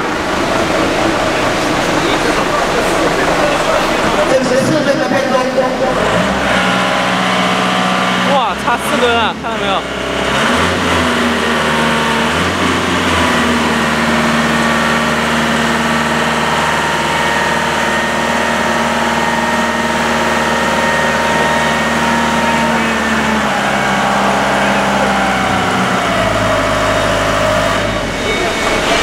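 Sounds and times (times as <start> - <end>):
hydraulic pump motor whining: 0.0 - 29.0.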